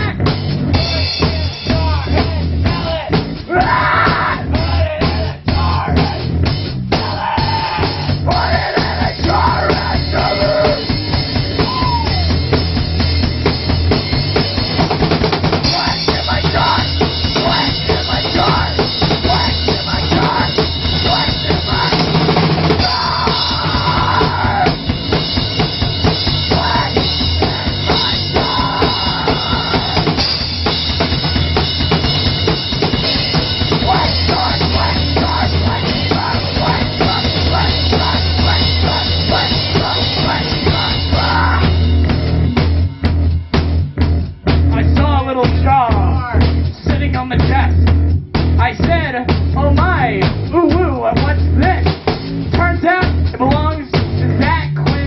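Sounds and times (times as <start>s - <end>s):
bass drum and snare beat: 0.0s - 55.0s
rock band music: 0.0s - 55.0s.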